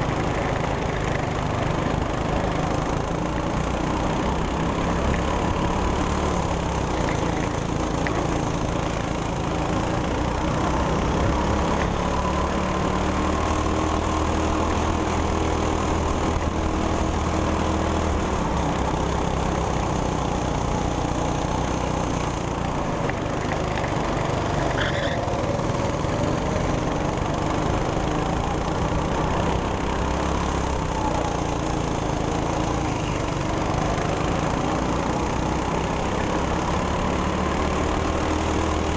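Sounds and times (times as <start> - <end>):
go-kart engine running: 0.0 - 38.9
wind and road noise: 0.0 - 38.9.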